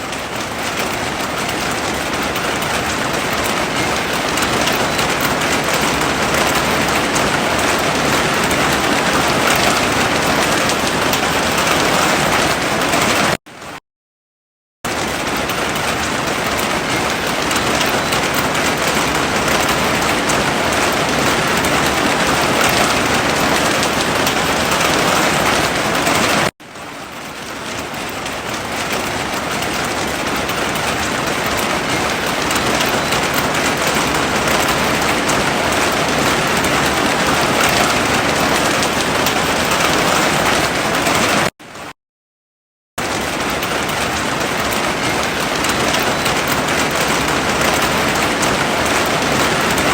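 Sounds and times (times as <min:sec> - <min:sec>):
heavy rain falling: 0:00.0 - 0:13.4, 0:14.9 - 0:41.9, 0:43.0 - 0:49.9.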